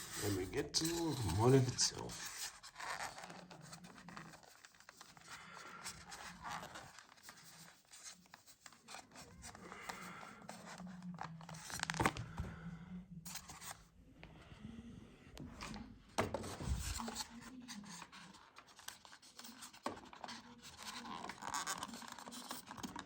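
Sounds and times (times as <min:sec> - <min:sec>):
packaging rustling and tearing: 0:00.0 - 0:12.3, 0:16.4 - 0:23.0.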